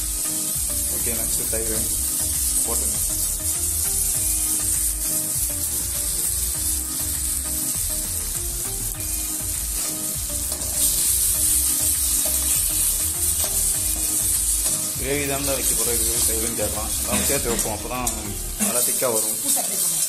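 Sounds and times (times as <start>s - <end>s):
masala sizzling in pan: 0.0s - 20.0s.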